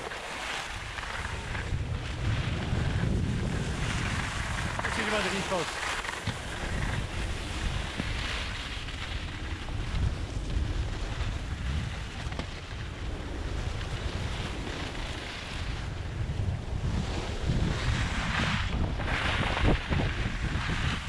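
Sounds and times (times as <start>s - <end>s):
skis sliding over snow: 0.0s - 21.0s
wind buffeting microphone: 0.6s - 21.0s.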